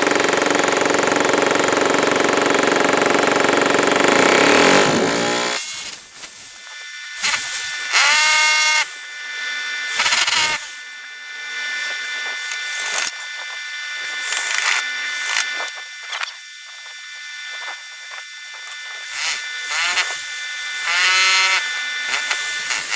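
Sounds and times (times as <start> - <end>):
power drill boring into brick: 0.0 - 22.9.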